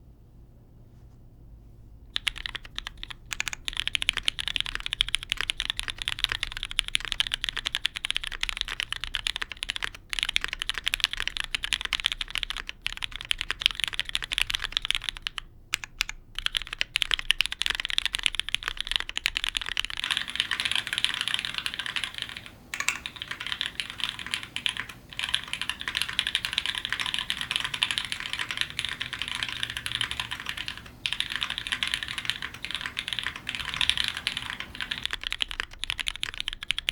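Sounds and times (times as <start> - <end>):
fast mechanical keyboard typing: 2.1 - 36.9.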